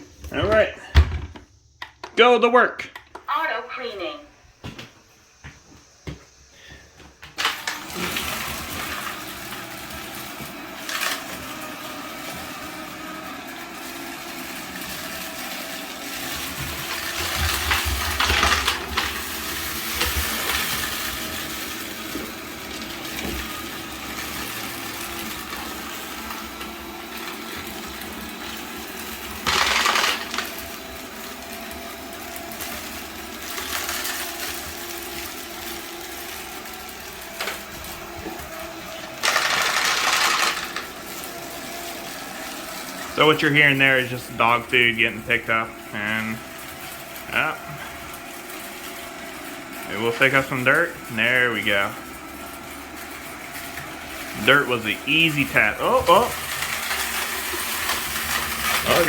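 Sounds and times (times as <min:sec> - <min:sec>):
robot vacuum humming: 0:07.3 - 0:59.0.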